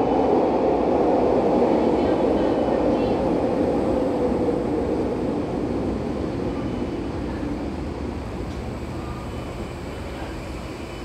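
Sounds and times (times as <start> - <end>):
train rumbling in tunnel: 0.0 - 11.0.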